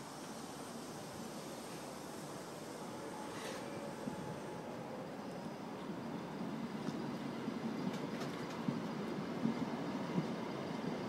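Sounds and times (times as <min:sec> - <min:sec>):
train wheels running on rails: 0:00.0 - 0:11.0.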